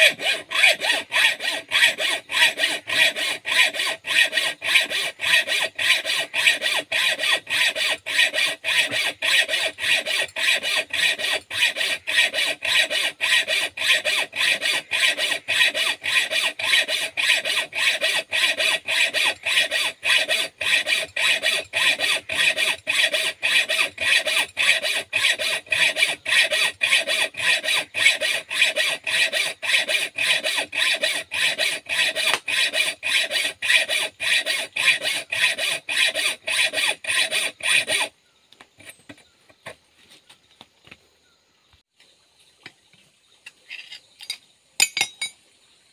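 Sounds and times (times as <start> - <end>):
hacksaw cutting metal pipe: 0.0 - 38.1, 43.8 - 45.3.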